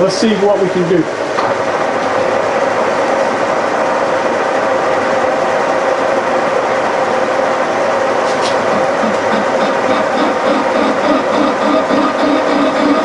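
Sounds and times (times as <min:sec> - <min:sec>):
milling machine drone: 0:00.0 - 0:13.0.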